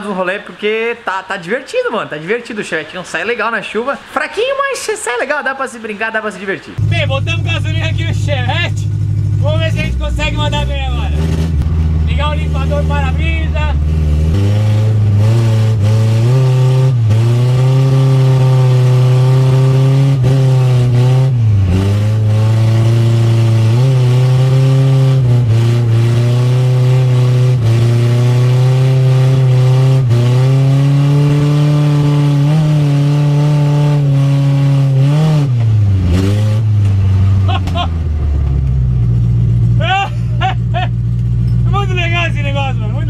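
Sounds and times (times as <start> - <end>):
car engine revving: 5.8 - 43.0.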